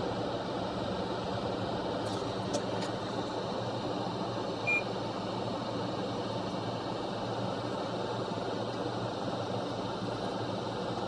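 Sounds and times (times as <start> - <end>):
equipment fan hum and hiss: 0.0 - 11.0.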